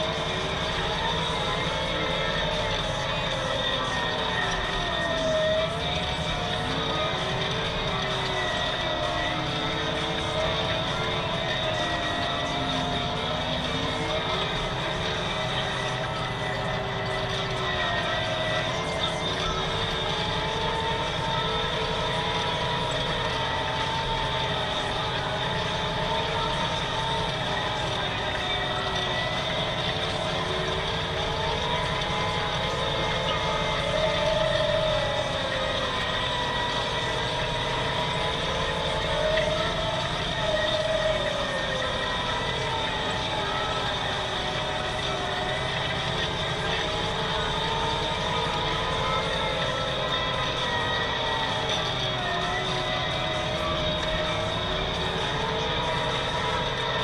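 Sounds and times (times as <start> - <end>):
steady whining tones: 0.0 - 57.0
tractor engine under load: 0.0 - 57.0.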